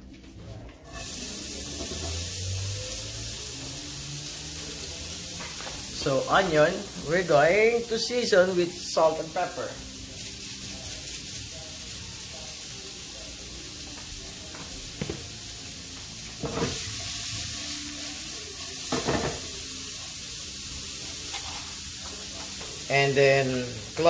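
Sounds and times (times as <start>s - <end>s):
onion sizzling in a frying pan: 0.8s - 24.0s.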